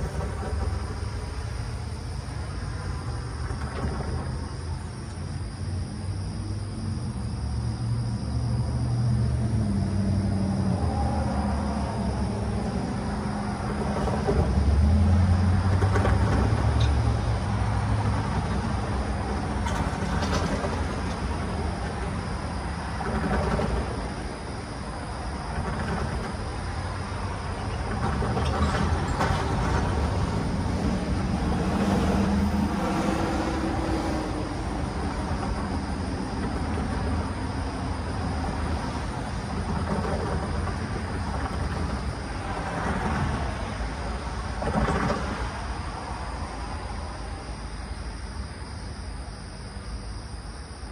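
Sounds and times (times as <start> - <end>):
cars passing over railroad crossing: 0.0 - 50.8.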